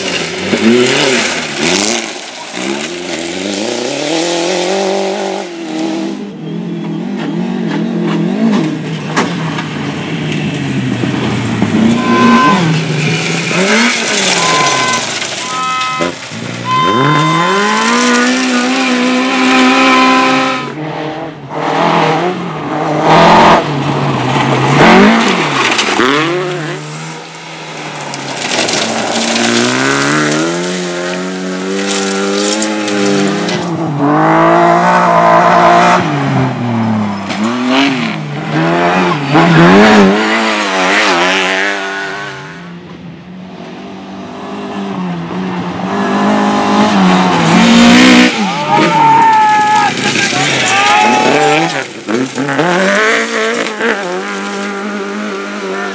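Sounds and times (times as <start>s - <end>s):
rally car engine revving: 0.0s - 55.9s.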